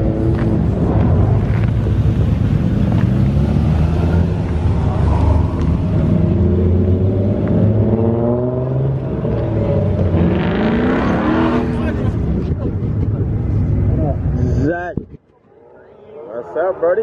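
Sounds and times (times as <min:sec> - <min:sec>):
car engines idling: 0:00.0 - 0:10.2, 0:11.0 - 0:14.9.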